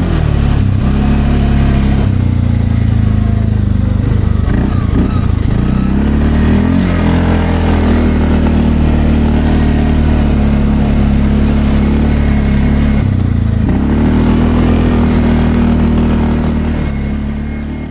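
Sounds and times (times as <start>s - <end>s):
atv engine revving: 0.0s - 17.9s.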